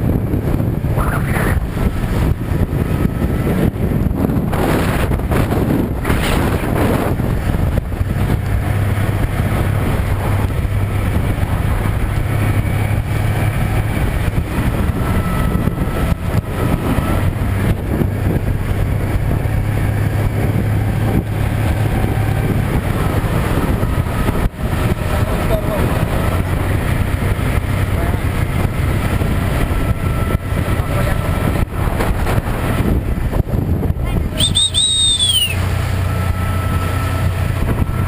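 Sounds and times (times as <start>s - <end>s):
motorboat engine running: 0.0s - 38.0s
wind noise on microphone: 0.0s - 38.0s.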